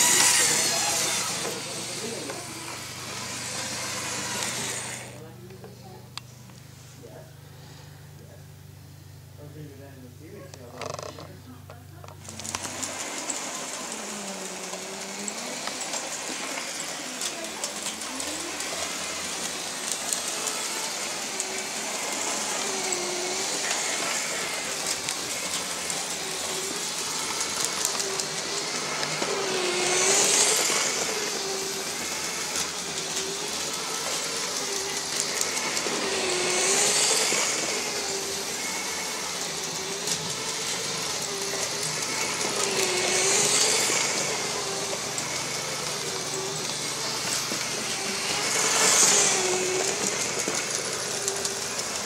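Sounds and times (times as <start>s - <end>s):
train rolling on metal track: 0.0s - 5.2s, 12.3s - 52.0s
electric toy train motor whine: 0.0s - 6.0s, 10.3s - 52.0s.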